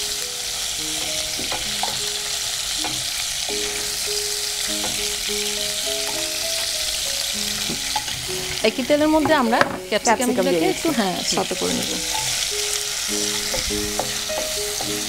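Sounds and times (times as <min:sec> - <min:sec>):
oil sizzling in a pan: 0:00.0 - 0:15.0
soft melody of held notes: 0:00.0 - 0:15.0.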